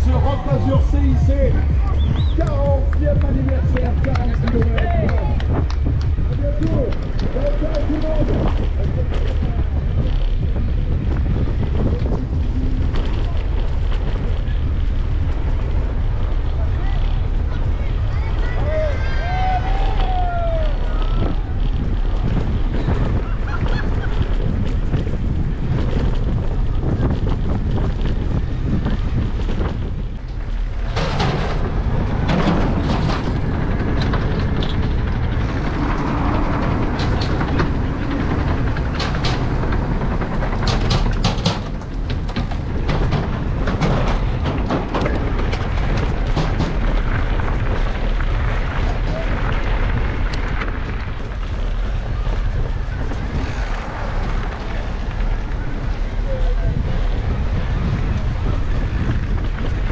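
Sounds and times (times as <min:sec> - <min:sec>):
bike rattling over rough ground: 0:00.0 - 0:59.9
wind rumbling on microphone: 0:00.0 - 0:59.9.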